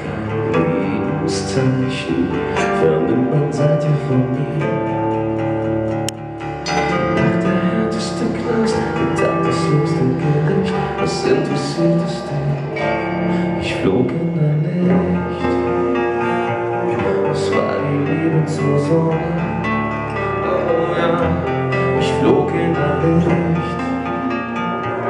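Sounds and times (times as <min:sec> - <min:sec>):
man singing: 0:00.0 - 0:05.5, 0:06.7 - 0:25.0
acoustic guitar: 0:00.0 - 0:25.0.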